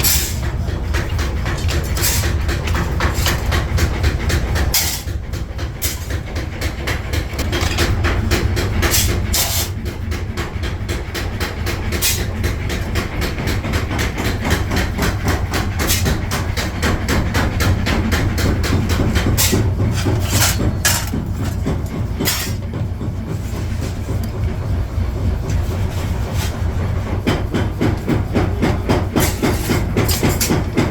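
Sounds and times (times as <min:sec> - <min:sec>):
deep machine hum: 0:00.0 - 0:30.9
forging machine clatter: 0:00.0 - 0:30.9.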